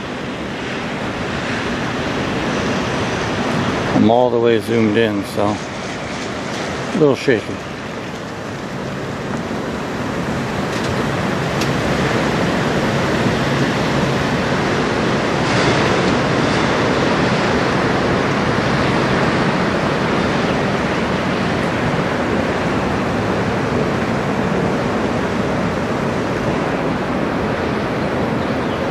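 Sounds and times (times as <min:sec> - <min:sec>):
lake waves rushing: 0:00.0 - 0:28.9
wind buffeting microphone: 0:00.0 - 0:28.9.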